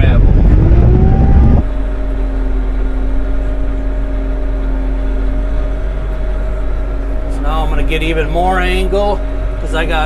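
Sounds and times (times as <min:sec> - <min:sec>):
rising engine whine: 0:00.0 - 0:10.0
tractor diesel engine humming: 0:00.0 - 0:10.0.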